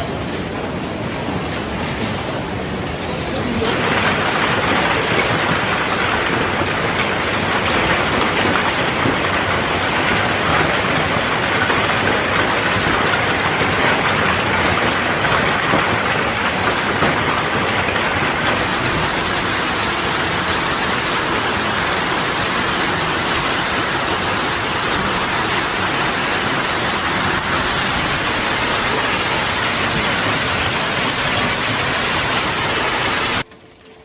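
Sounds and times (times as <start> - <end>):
heavy rain and hail: 0.0 - 34.0.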